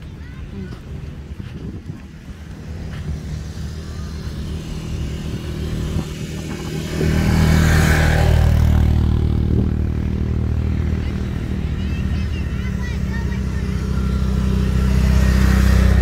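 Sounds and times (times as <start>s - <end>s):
quad bike engine running: 0.0s - 16.0s.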